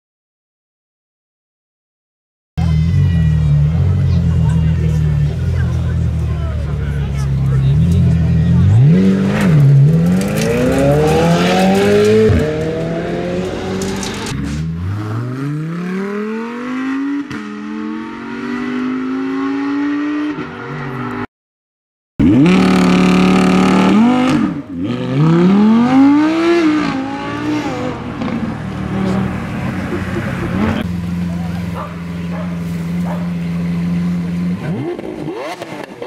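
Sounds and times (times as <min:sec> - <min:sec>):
sports car engines accelerating: 0:02.6 - 0:21.2, 0:22.2 - 0:36.0.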